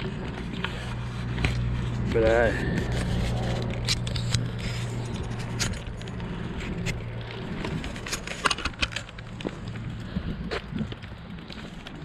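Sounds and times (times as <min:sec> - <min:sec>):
clicks and rattles: 0:00.0 - 0:09.8
bicycle rolling over asphalt: 0:00.0 - 0:12.0
low hum: 0:00.0 - 0:12.0.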